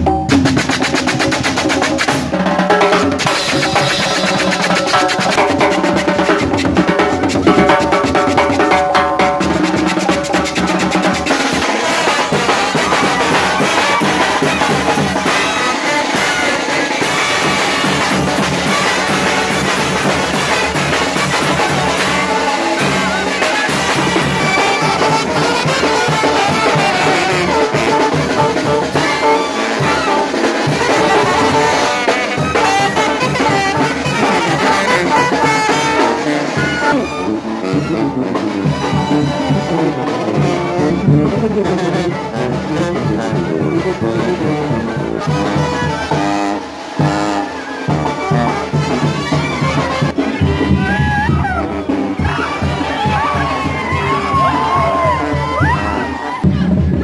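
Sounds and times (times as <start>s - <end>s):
brass band playing: 0.0s - 57.0s
drum kit with cowbells: 0.0s - 57.0s.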